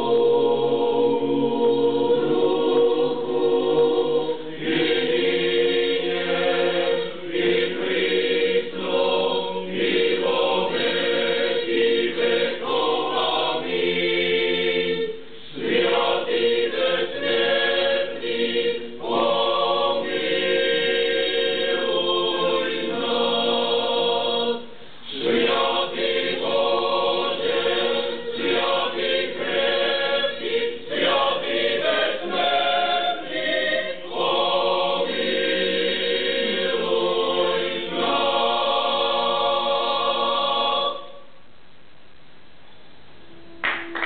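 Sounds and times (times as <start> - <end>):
choir singing: 0.0 - 41.2.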